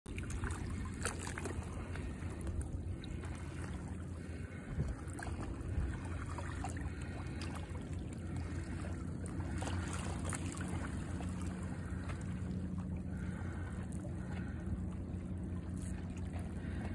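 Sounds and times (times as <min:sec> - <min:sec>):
steady low hum: 0:00.1 - 0:16.9
water sloshing and splashing: 0:00.1 - 0:16.9.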